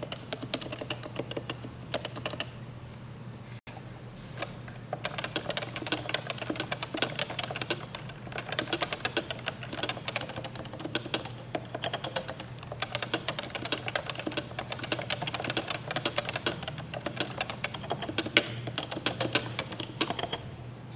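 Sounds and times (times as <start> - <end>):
fast keyboard typing: 0.0 - 2.6, 4.9 - 20.5.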